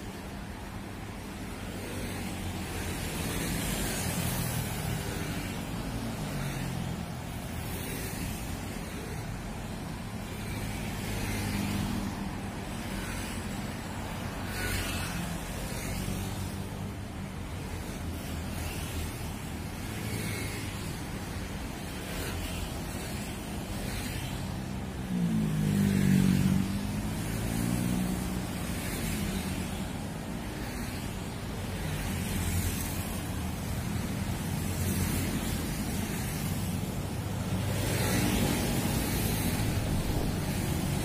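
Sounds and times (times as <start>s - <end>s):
cars and motorbikes driving past: 0.0s - 41.0s.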